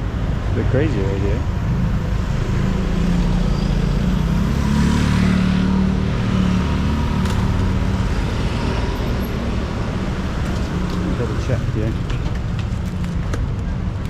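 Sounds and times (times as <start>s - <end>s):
busy street traffic: 0.0s - 14.0s
vehicle engine running close by: 1.0s - 13.4s.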